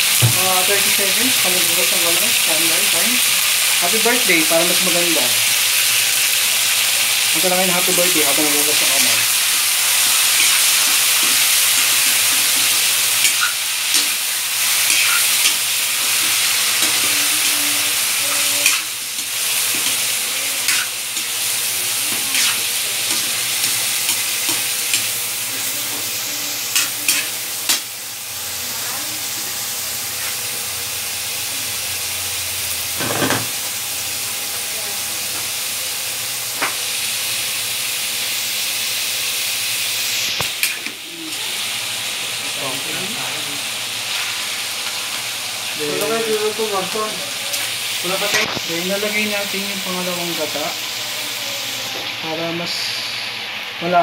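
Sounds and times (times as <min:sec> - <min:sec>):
chicken sizzling in hot oil: 0:00.0 - 0:54.0.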